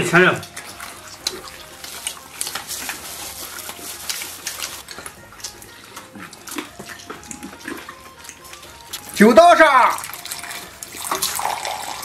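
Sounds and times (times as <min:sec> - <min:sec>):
chewing and tearing meat: 0:00.0 - 0:12.0.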